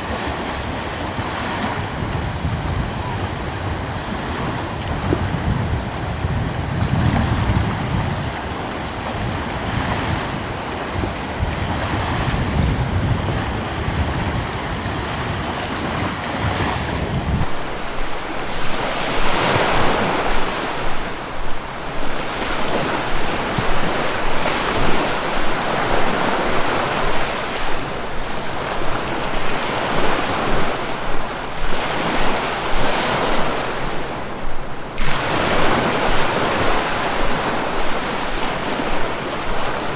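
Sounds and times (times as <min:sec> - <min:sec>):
low wind rumble: 0:00.0 - 0:39.9
ocean waves breaking: 0:00.0 - 0:39.9.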